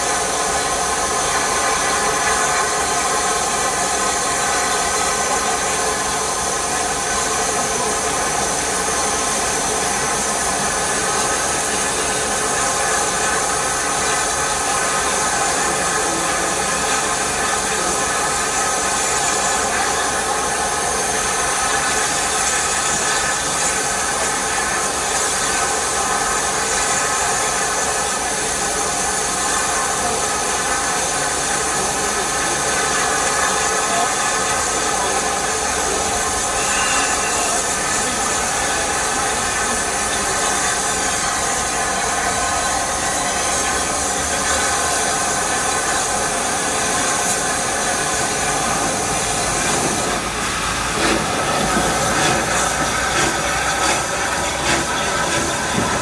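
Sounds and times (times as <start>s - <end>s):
steam hissing from locomotive: 0.0s - 56.0s.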